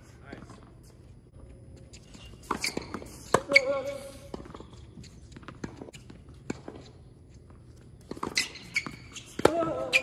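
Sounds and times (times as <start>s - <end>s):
sneaker squeaking on court: 1.4s - 10.0s.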